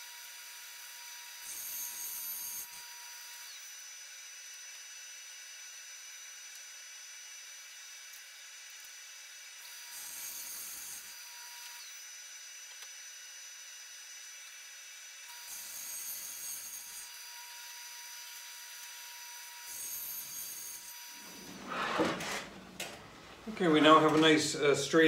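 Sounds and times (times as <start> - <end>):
table saw cutting wood: 0.0 - 6.4, 7.2 - 14.6, 15.2 - 25.0.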